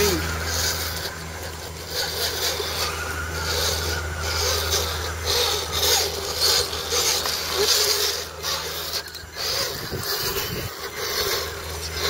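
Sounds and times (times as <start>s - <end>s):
electric motor whine: 0.0s - 12.0s
low hum: 0.0s - 12.0s
tyres scraping on stone: 0.0s - 12.0s.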